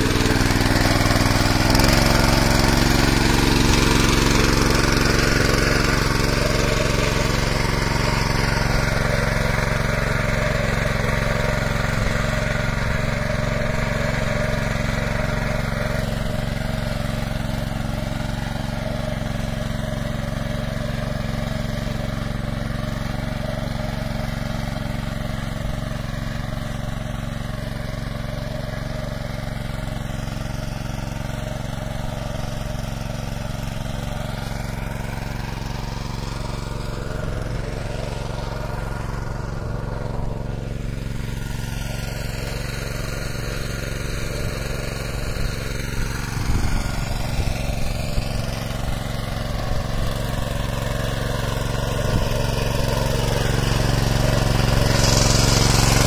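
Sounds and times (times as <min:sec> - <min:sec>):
rotary tines tilling soil: 0:00.0 - 0:56.0
small engine running: 0:00.0 - 0:56.0.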